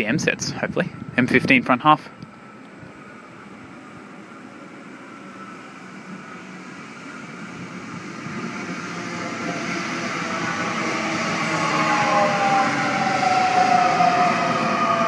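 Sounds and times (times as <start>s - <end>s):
rail rumble: 0.0s - 15.0s
electric train motors whining: 2.2s - 15.0s.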